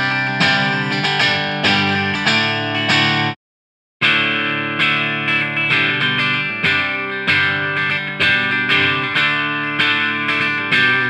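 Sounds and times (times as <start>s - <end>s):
electric guitar through amp: 0.0s - 3.4s, 4.0s - 11.0s.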